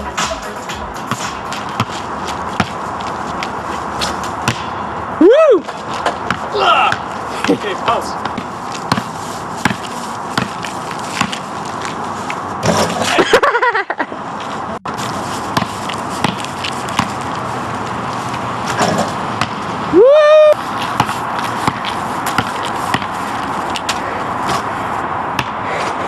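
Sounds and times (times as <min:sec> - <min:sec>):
basketball bouncing on asphalt: 0:00.8 - 0:13.1, 0:14.4 - 0:19.9, 0:20.6 - 0:25.6.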